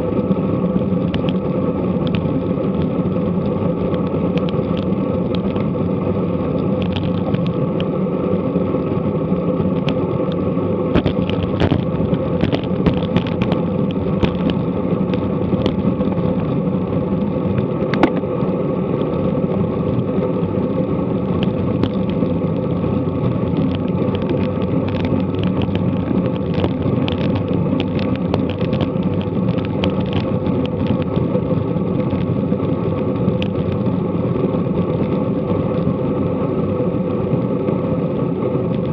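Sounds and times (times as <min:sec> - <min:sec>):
road bike tyre noise: 0:00.0 - 0:38.9
wind noise: 0:00.0 - 0:38.9.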